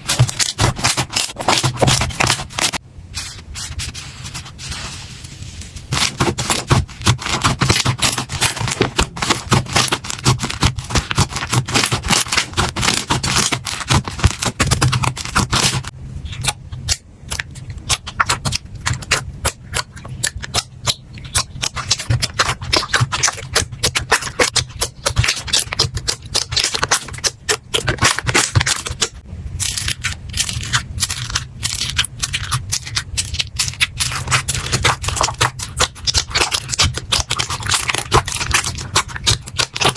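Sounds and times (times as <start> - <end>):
slime crackling and popping: 5.9 - 39.9.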